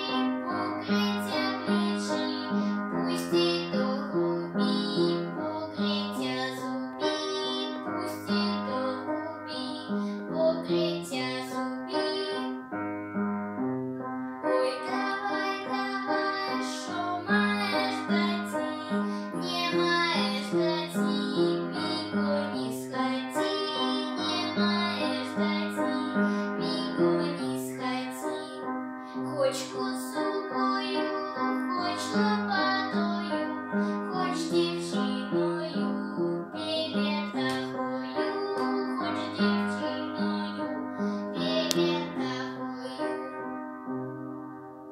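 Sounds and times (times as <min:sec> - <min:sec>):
girl singing folk song: 0:00.0 - 0:12.9, 0:14.2 - 0:43.5.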